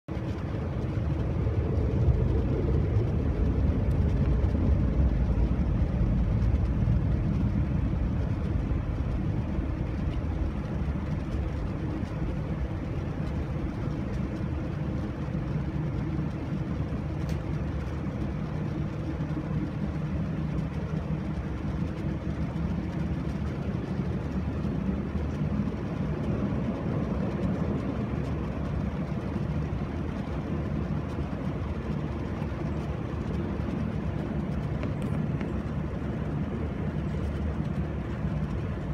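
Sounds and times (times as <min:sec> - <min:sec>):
airplane engines rumbling: 0:00.0 - 0:38.9
faint steady hum: 0:00.1 - 0:38.9.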